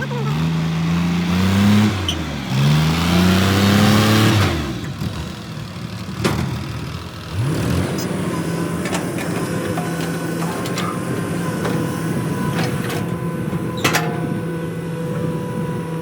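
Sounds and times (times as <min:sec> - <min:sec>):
steady engine hum: 0:00.0 - 0:16.0.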